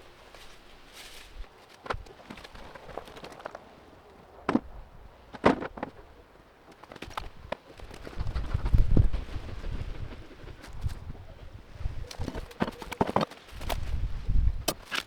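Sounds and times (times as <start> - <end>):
low wind rumble on microphone: 0.0 - 14.8.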